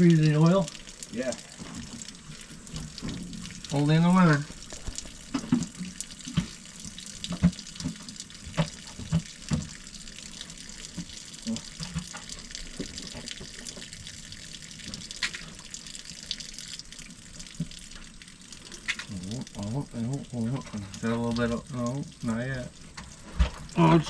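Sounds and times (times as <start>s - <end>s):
fluid pouring into a pan: 0.0s - 24.0s.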